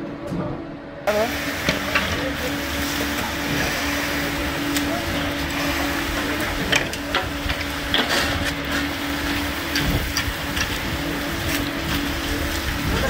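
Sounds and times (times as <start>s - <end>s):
concrete pump humming: 1.1s - 13.0s.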